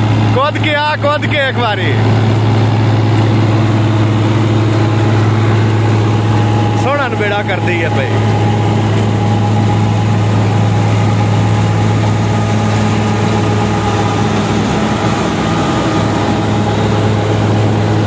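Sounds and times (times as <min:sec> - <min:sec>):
tractor and straw chopper drone: 0:00.0 - 0:18.0.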